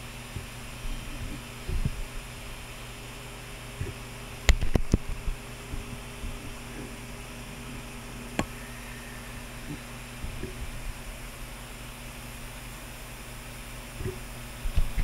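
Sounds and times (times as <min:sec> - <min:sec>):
electrical hum: 0:00.0 - 0:15.0
fan-like hiss: 0:00.0 - 0:15.0.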